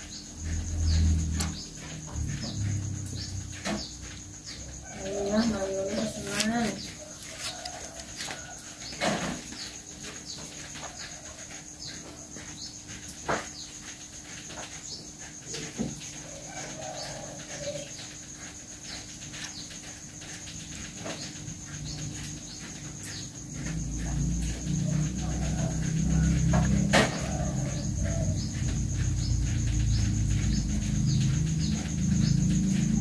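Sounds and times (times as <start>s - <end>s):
high insect whine: 0.0s - 33.0s.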